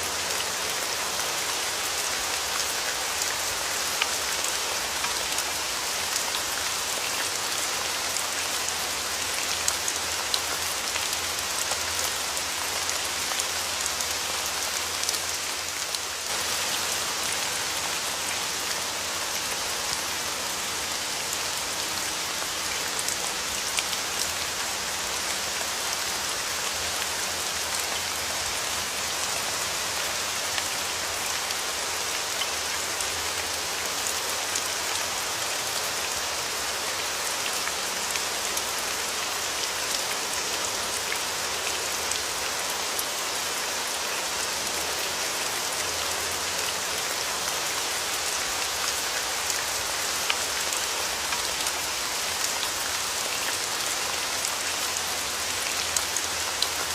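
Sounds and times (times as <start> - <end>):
rain falling hiss: 0.0 - 56.9.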